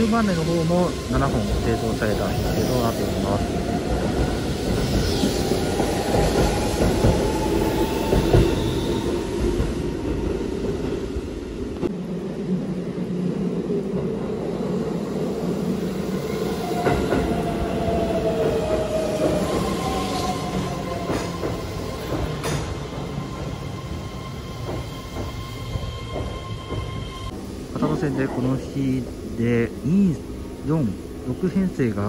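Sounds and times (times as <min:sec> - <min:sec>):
train rumble with wheel clatter: 0:00.0 - 0:32.0
train whine: 0:00.0 - 0:32.0.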